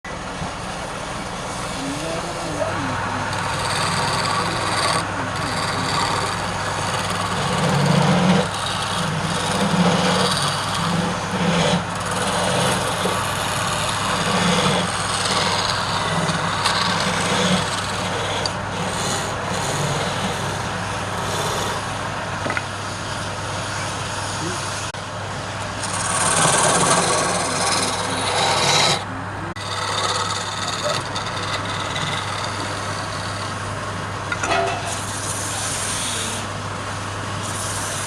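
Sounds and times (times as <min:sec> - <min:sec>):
wood lathe motor hum: 0:00.2 - 0:23.8, 0:25.6 - 0:36.7
turning tool scraping wood: 0:01.6 - 0:22.6, 0:25.7 - 0:36.5.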